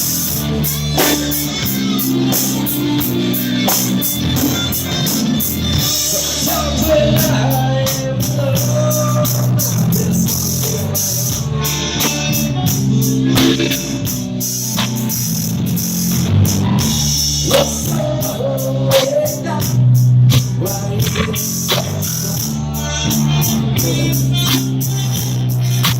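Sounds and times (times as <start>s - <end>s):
person singing: 0.0s - 15.0s, 16.6s - 25.5s
drums: 0.0s - 25.9s
guitar: 0.0s - 25.9s.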